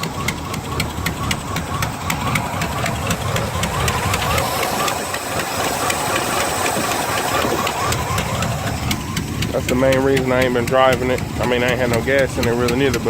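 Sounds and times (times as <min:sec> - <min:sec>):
car engine idling: 0:00.0 - 0:13.0
sharp engine ticking: 0:00.0 - 0:13.0.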